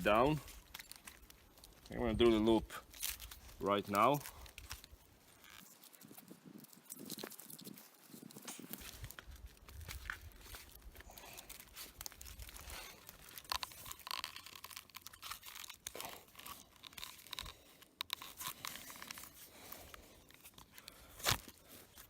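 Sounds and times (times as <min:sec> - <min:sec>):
dry wood rustling and crackling: 0:00.0 - 0:22.0.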